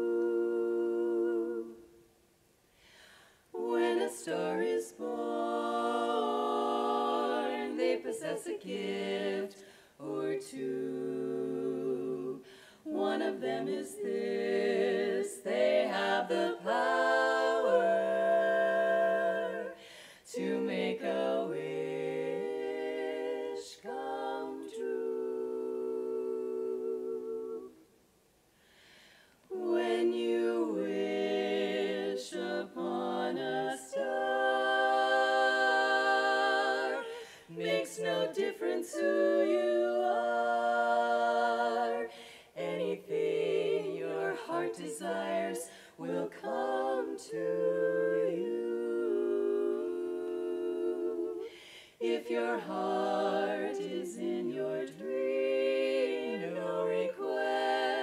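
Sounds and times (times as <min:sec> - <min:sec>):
women singing in harmony: 0:00.0 - 0:02.1, 0:03.3 - 0:28.0, 0:29.4 - 0:58.0.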